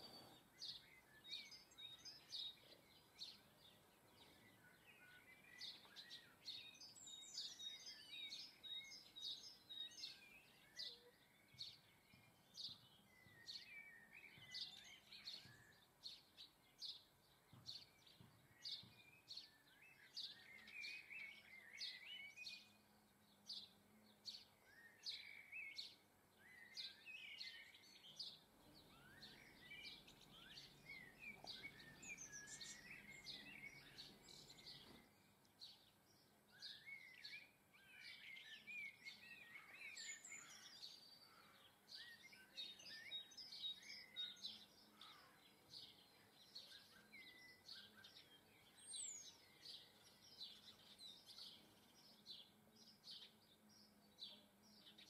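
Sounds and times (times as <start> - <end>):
small songbirds chirping: 0.0 - 55.0.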